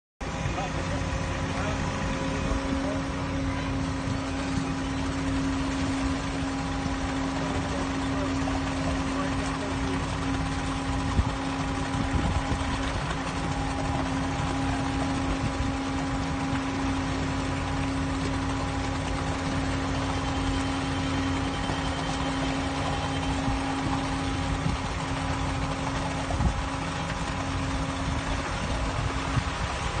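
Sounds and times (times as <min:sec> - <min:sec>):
diesel engine running: 0:00.2 - 0:30.0.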